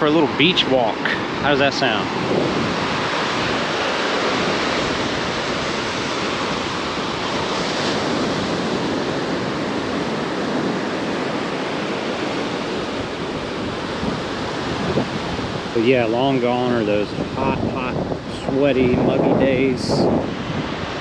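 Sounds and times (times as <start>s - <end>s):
waves breaking on sandy beach: 0.0s - 21.0s.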